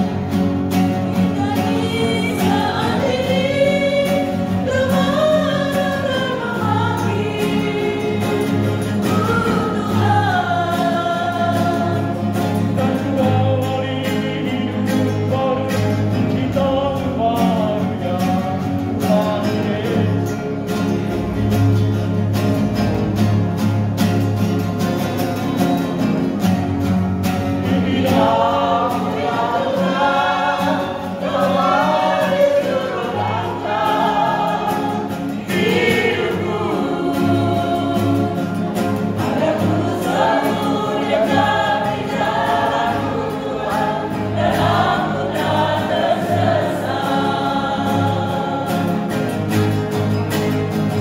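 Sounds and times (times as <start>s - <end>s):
choir singing: 0.0s - 21.4s, 27.3s - 51.0s.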